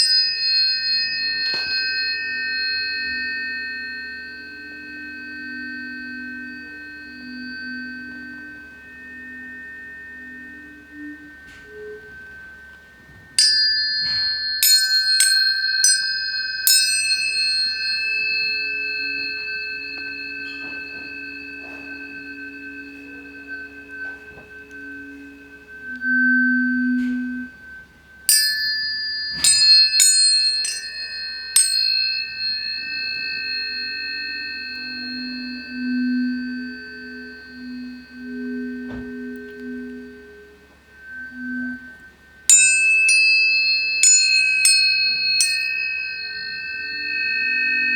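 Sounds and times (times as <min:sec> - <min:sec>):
low tones: 0:00.0 - 0:47.9
tuning forks ringing: 0:00.0 - 0:47.9.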